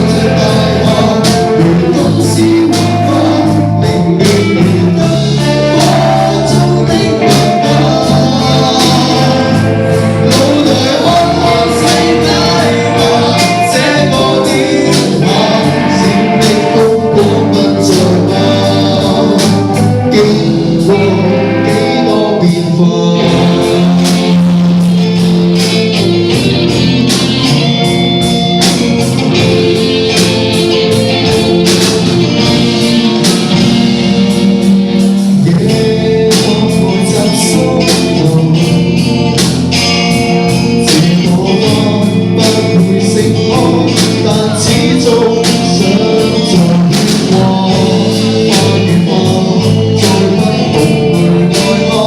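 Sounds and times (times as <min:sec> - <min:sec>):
live band with singer: 0:00.0 - 0:52.0
steady drum beat: 0:00.0 - 0:52.0.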